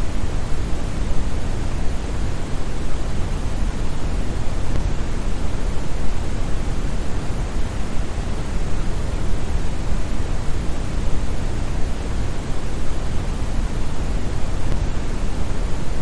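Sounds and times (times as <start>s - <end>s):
brown noise rushing hiss: 0.0s - 16.0s.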